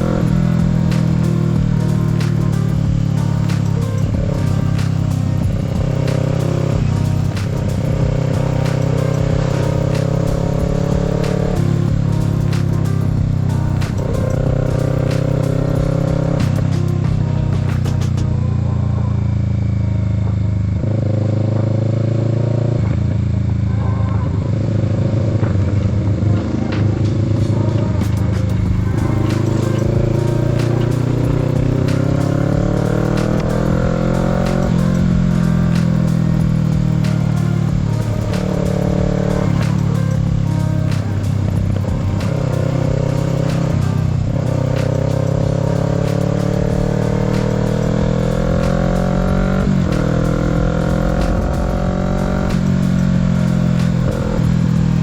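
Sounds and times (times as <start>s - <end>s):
motorcycle engine running: 0.0s - 23.8s, 24.6s - 55.0s.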